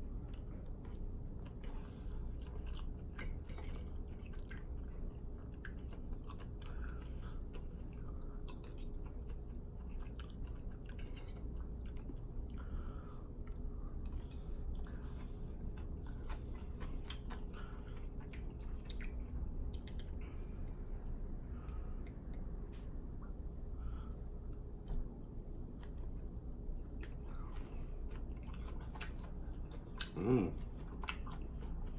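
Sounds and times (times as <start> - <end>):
person chewing food: 0.0 - 22.5, 23.2 - 31.9
steady low hum: 0.0 - 31.9.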